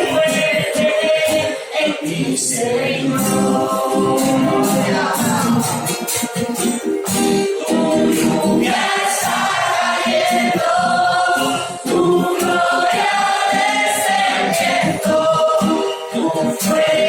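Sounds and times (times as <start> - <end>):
instrumental backing: 0.0 - 17.0
voices singing together: 0.0 - 17.0.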